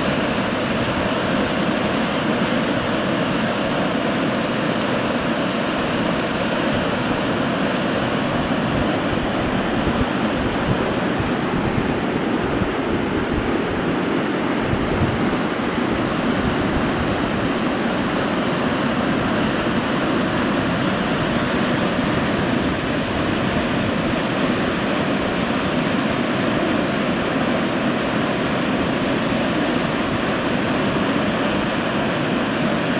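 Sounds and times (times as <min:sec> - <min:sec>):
turbulent water rushing: 0:00.0 - 0:32.9.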